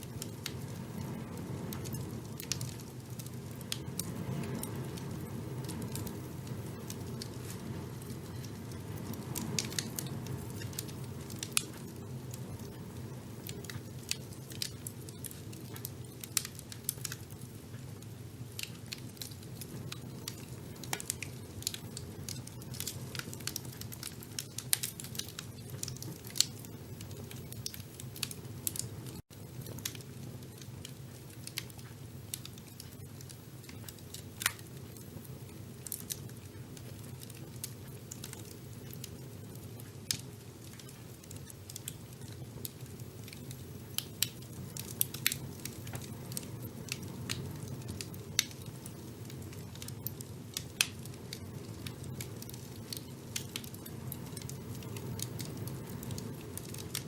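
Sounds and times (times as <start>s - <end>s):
fire crackling and popping: 0.0s - 57.0s
rumble of fire flames: 0.0s - 57.0s.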